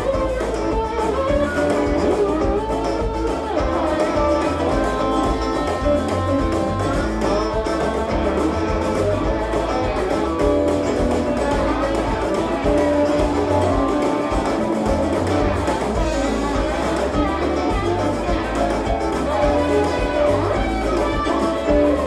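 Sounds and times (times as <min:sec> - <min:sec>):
low bass line: 0:00.0 - 0:22.0
plucked guitar music: 0:00.0 - 0:22.0.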